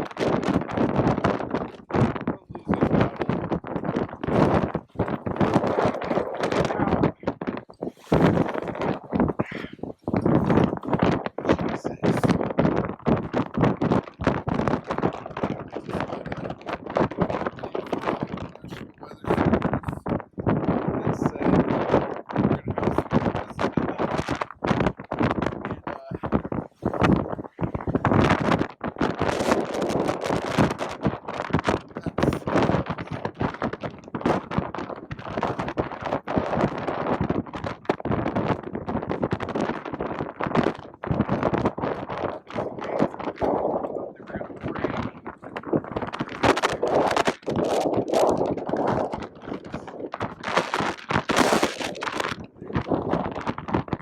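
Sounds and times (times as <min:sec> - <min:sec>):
flapping and rattling in wind: 0:00.0 - 0:54.0
sharp cracks and thumps: 0:00.0 - 0:54.0.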